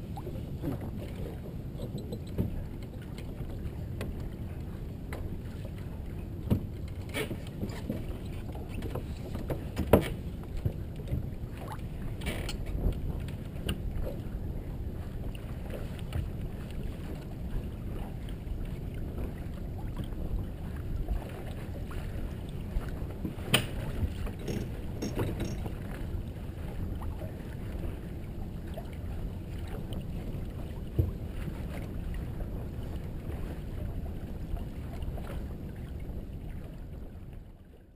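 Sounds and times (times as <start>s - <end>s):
wind buffeting microphone: 0.0s - 37.2s
water washing along hull: 0.0s - 37.9s.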